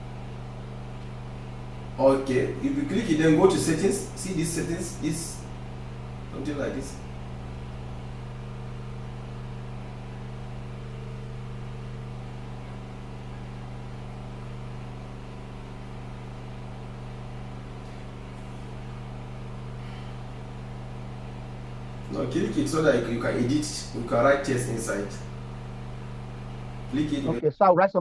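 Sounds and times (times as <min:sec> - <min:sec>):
steady low hum: 0:00.0 - 0:27.5.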